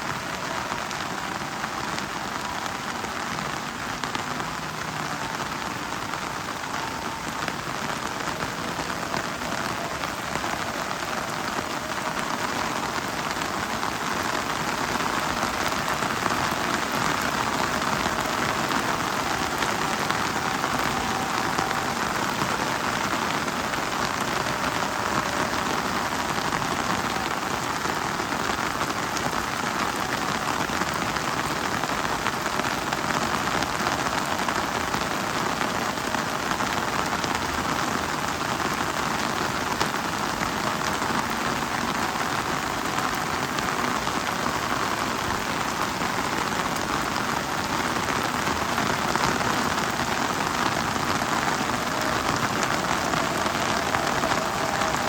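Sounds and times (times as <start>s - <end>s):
heavy rain on leaves: 0.0s - 55.0s.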